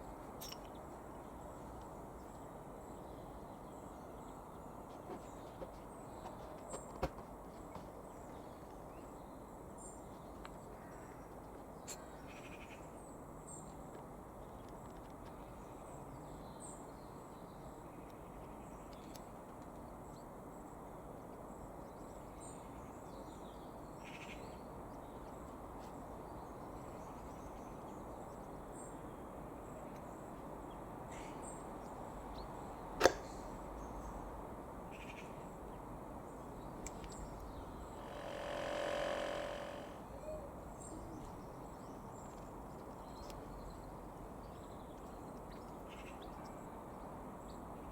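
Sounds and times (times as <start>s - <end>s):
low background noise: 0.0s - 47.9s.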